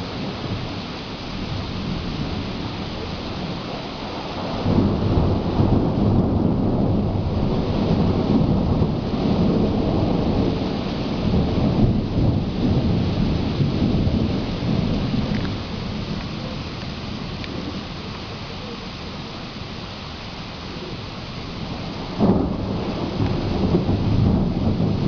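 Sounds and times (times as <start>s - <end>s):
low rumble of thunder: 0.0s - 25.0s
rain falling steadily: 0.0s - 25.0s.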